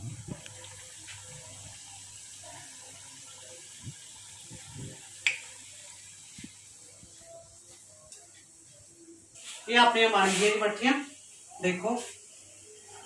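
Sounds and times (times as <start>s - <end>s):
deep-frying sizzle: 0.0s - 13.0s.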